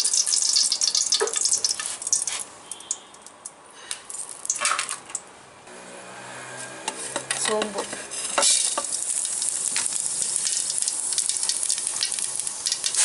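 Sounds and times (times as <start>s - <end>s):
hot oil crackling and spitting: 0.0s - 5.2s, 7.2s - 13.0s.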